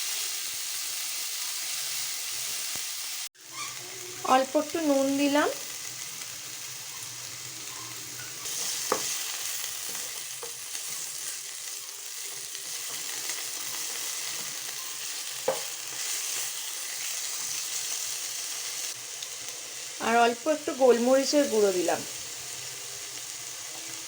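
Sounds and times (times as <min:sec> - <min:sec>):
vegetables sizzling in butter: 0:00.0 - 0:24.0.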